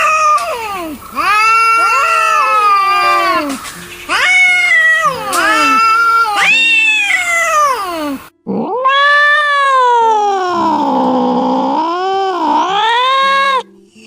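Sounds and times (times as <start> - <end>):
cats yowling: 0.0 - 13.7.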